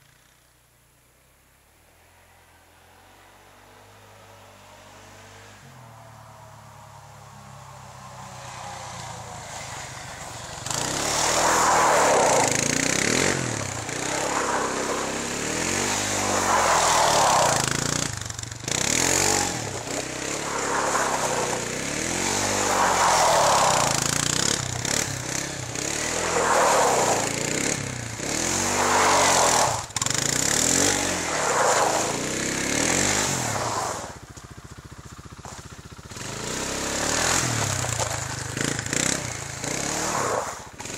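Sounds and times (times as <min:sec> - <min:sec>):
quad engine revving: 0:06.2 - 0:40.9.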